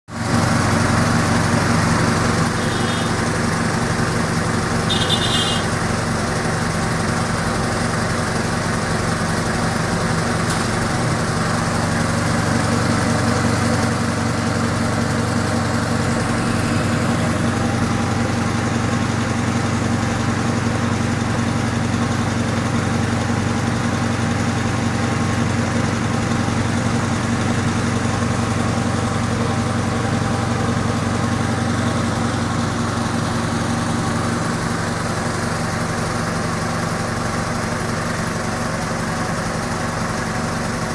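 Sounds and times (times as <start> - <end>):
air compressor droning: 0.2 - 37.8.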